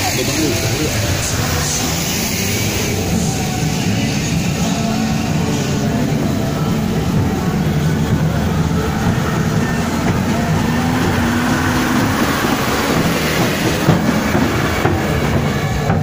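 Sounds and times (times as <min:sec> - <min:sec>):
street noise: 0:00.0 - 0:16.0
truck engine rumbling: 0:00.0 - 0:16.0.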